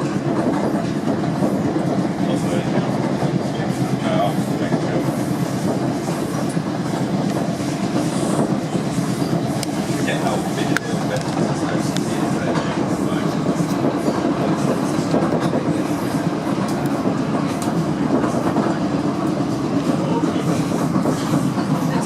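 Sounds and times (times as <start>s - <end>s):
rail clicks: 0.0s - 22.0s
train wheels rumbling on track: 0.0s - 22.0s.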